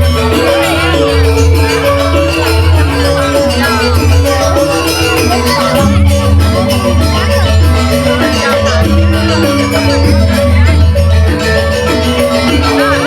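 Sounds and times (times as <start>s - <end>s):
ringing metallophone notes: 0.0s - 13.0s.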